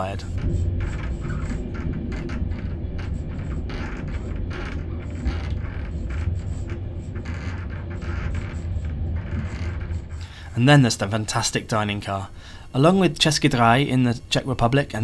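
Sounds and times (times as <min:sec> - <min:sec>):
wheels and car body rattling: 0:00.0 - 0:12.2
train coach rumble: 0:00.0 - 0:15.0.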